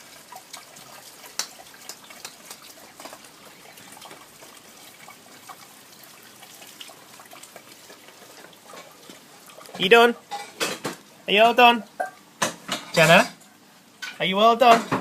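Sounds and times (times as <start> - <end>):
rain falling: 0.0 - 14.8
raindrops ticking and splashing: 0.0 - 14.9.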